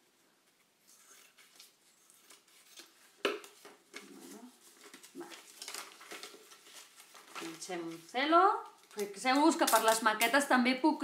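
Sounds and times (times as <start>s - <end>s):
paper rustling: 0.5s - 10.2s.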